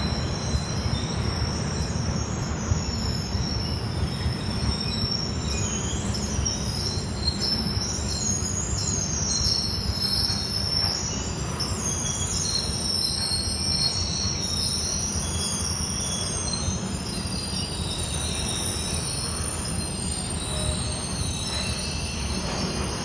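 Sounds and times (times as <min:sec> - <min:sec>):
low rumble of wheels on rail: 0:00.0 - 0:23.0
train wheels squealing: 0:00.0 - 0:23.0.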